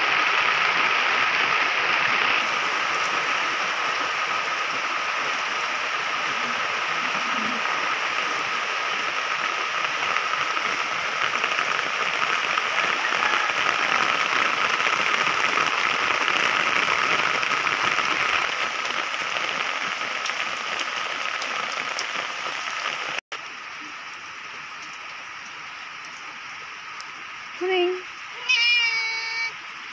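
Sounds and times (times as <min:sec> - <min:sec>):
rain falling on plants: 0:00.0 - 0:29.9.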